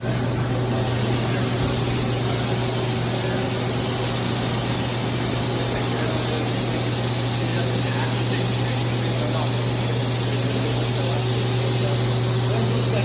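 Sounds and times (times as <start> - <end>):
lathe running with whirring hum: 0.0 - 13.0.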